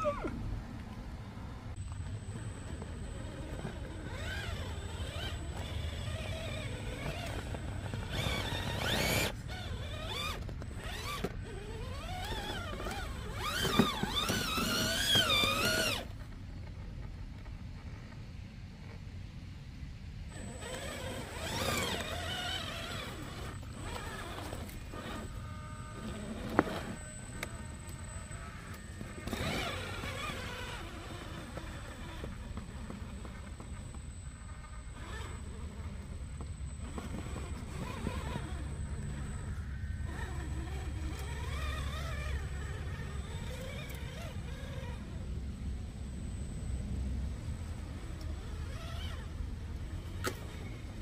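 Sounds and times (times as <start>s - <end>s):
low steady rumble: 0.0s - 51.0s
thin steady high whine: 0.0s - 51.0s
electric motor whining: 1.5s - 16.2s, 20.3s - 51.0s.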